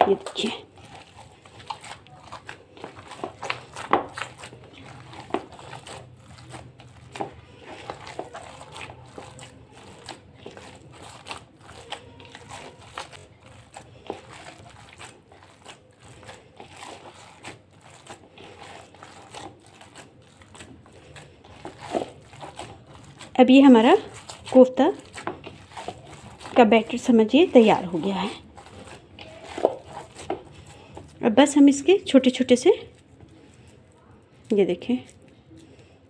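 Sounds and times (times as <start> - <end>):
wet sticky squishes of kneading: 0.0 - 36.0.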